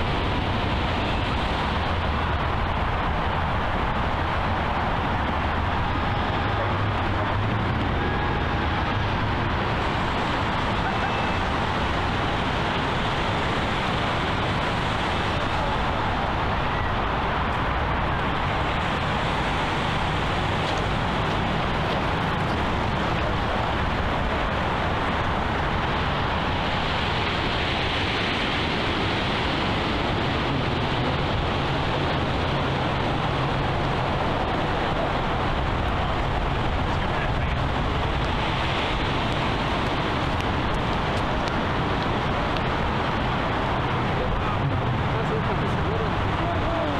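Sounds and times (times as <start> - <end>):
outdoor ambient noise: 0.0 - 46.9.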